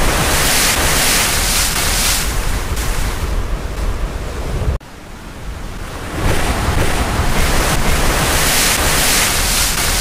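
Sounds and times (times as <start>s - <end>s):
ocean waves breaking: 0.0s - 10.0s.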